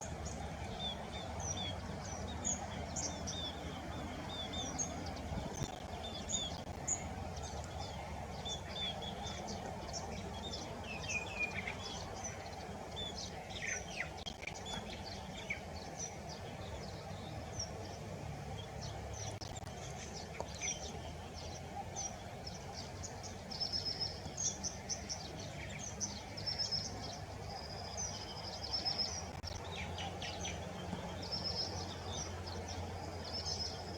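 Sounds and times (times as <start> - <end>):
wild birds chirping: 0.0 - 33.9.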